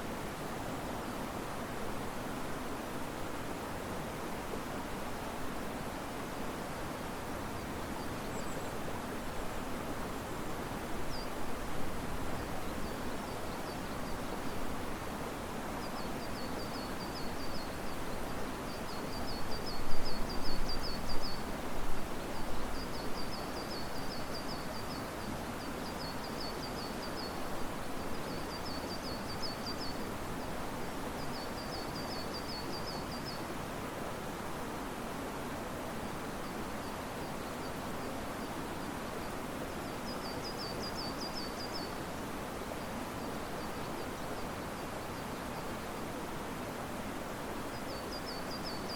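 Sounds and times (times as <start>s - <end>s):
river water rushing: 0.0s - 48.9s
wind through trees: 0.0s - 48.9s.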